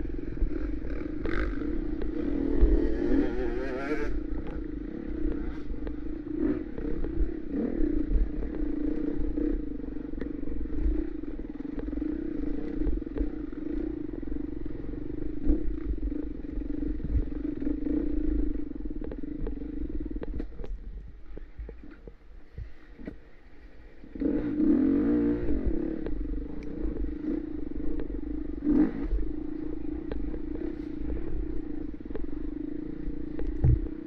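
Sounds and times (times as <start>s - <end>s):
dirt bike engine running: 0.0s - 34.0s
knocks and clatter over rough ground: 0.0s - 34.0s
wind rumble on microphone: 0.0s - 34.0s.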